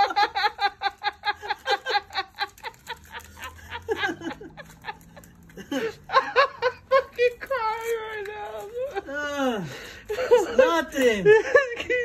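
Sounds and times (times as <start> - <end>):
man laughing hard: 0.0 - 7.2, 8.8 - 12.0.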